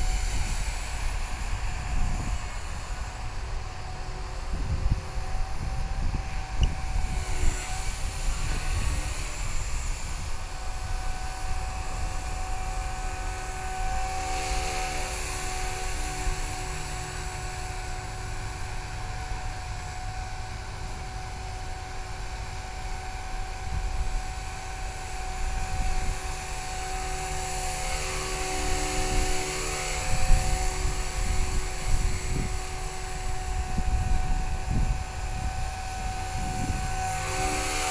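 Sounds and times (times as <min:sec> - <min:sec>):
rc helicopter motor whine: 0:00.0 - 0:37.9
wind rumble on microphone: 0:00.0 - 0:37.9.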